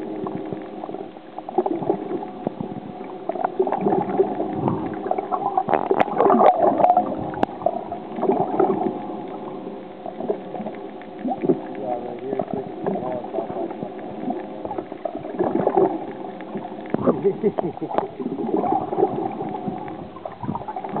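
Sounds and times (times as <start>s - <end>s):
steady low hum: 0.0s - 21.0s
underwater gurgling and sloshing: 0.0s - 21.0s.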